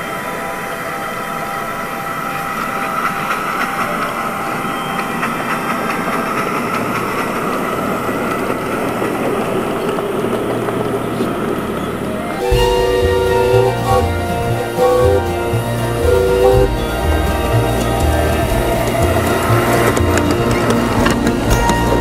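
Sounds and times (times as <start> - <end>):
ride-on train wheels rumbling: 0.0 - 22.0.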